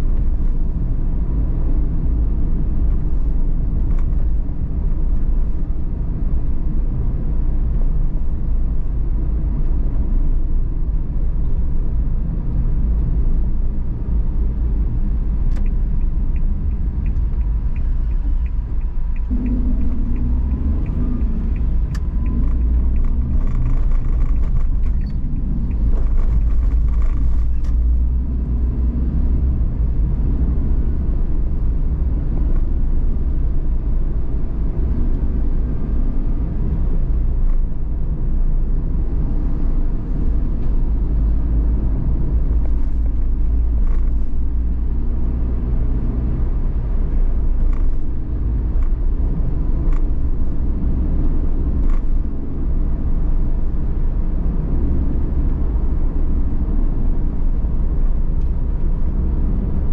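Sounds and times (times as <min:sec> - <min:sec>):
engine and road noise rumble: 0:00.0 - 0:59.9.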